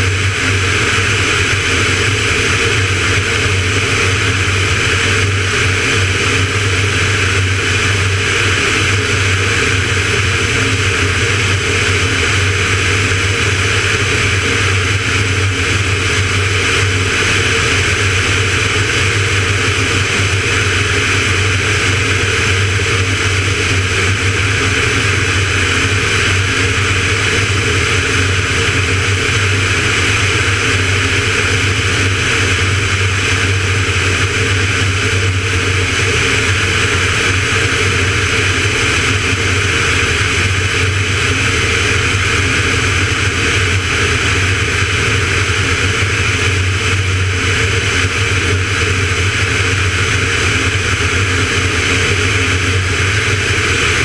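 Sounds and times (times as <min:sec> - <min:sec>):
aircraft engine and propeller droning: 0:00.0 - 0:54.0.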